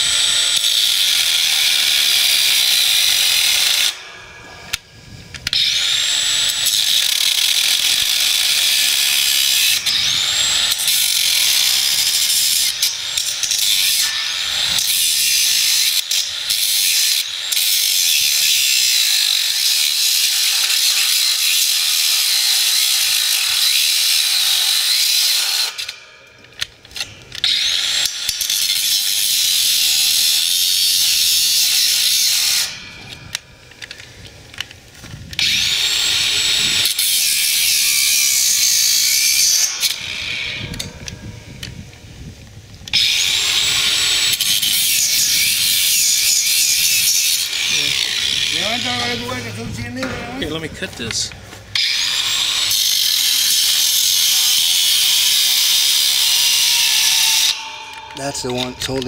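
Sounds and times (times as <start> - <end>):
angle grinder cutting steel rod: 0.0 - 34.7, 35.3 - 41.8, 42.9 - 59.0.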